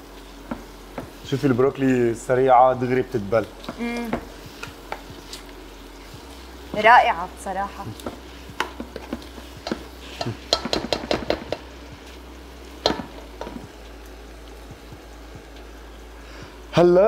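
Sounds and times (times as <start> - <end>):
faint sizzle: 0.0 - 17.0.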